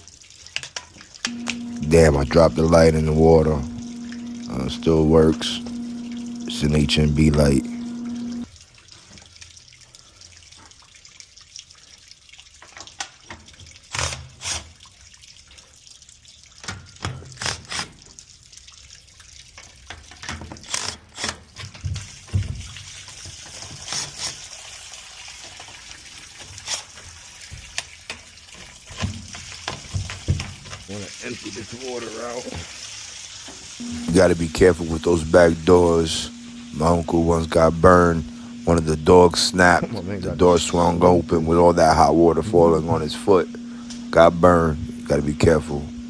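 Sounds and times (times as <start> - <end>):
water running and dripping: 0.0 - 46.0.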